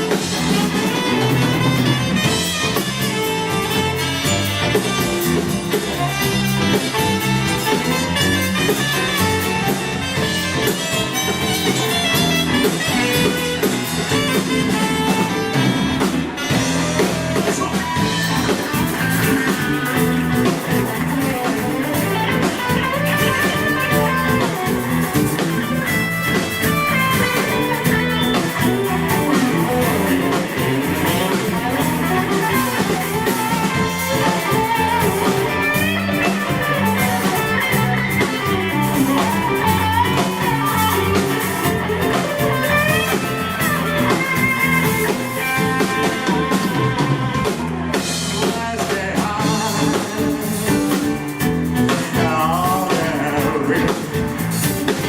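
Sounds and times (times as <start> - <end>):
electric guitar lines: 0.0 - 55.0
live band playing: 0.0 - 55.0.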